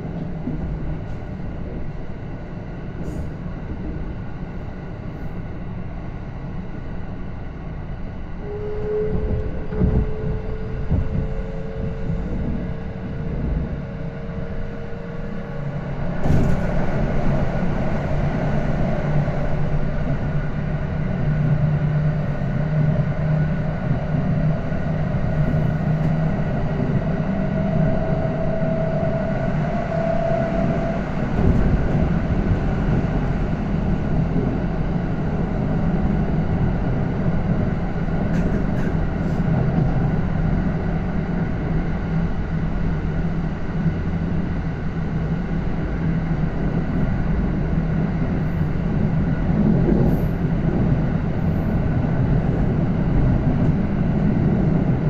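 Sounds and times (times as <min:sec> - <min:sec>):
electric train running rumble: 0:00.0 - 0:55.0.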